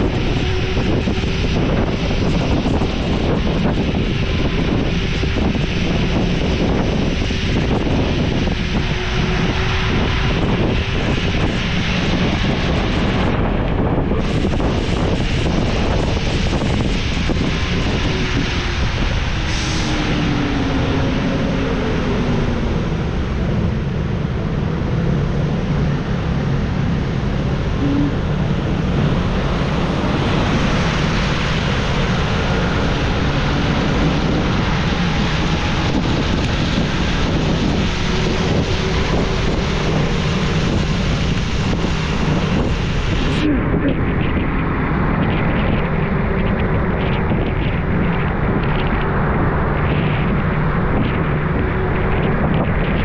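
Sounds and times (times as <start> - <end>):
low engine rumble: 0.0 - 53.0
road and tyre noise in rain: 0.0 - 53.0.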